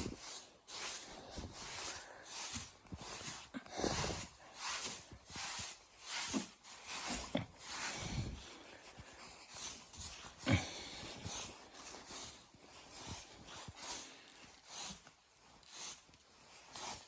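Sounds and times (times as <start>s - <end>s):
dog breathing and sniffing: 0.0s - 15.1s.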